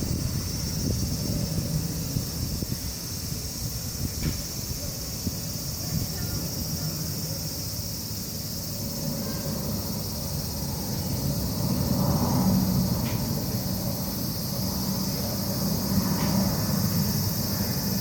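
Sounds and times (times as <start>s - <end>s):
insect chorus chirring: 0.0s - 18.0s.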